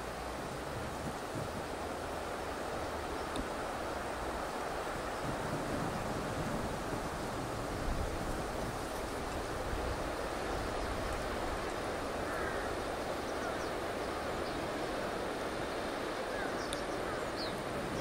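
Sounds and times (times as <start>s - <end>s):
river water rushing: 0.0s - 18.0s
wind: 0.0s - 18.0s.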